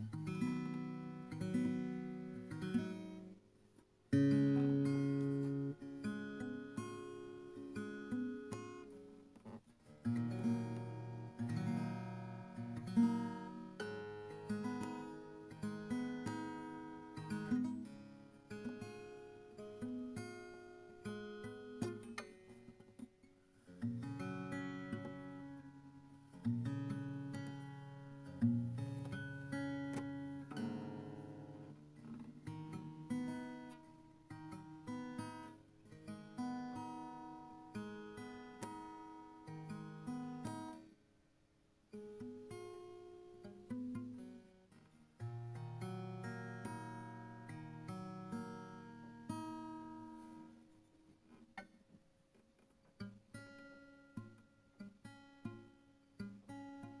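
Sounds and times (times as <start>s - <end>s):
acoustic guitar strumming chords: 0.0s - 3.5s, 4.1s - 41.0s, 41.9s - 51.7s.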